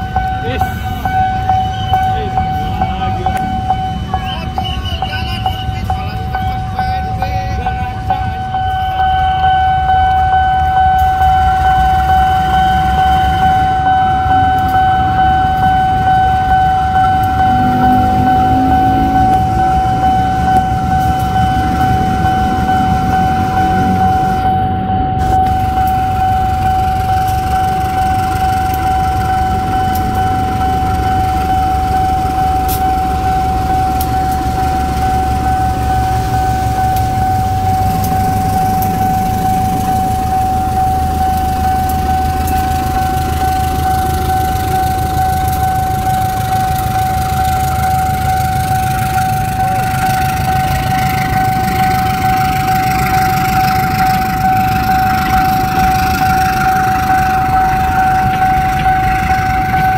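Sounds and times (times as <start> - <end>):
high-pitched siren tone: 0.0 - 59.9
locomotive engine rumble: 0.0 - 59.9.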